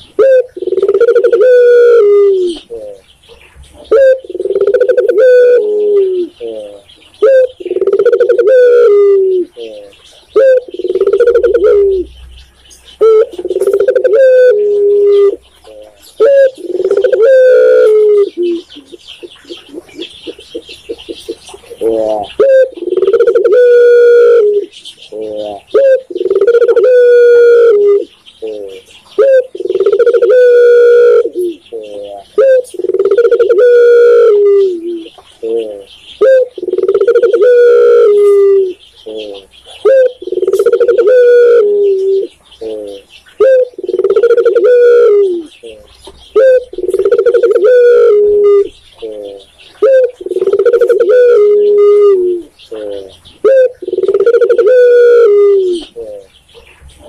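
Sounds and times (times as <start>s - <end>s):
dove cooing: 0.0s - 57.0s
small birds chirping: 0.0s - 57.0s.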